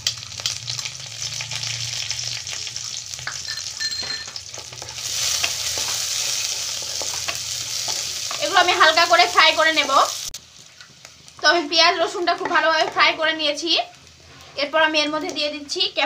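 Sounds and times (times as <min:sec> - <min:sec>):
onion and garlic sizzling: 0:00.0 - 0:16.0.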